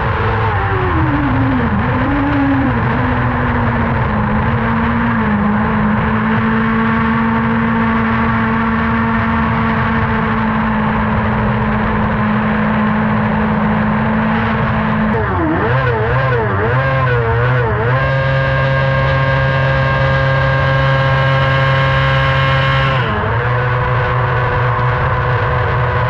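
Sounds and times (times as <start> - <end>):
kart engine revving: 0.0 - 26.0.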